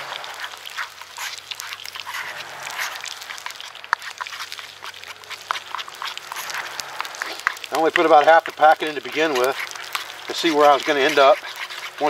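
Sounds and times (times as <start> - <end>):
spoon scraping metal bowl: 0.0 - 12.0.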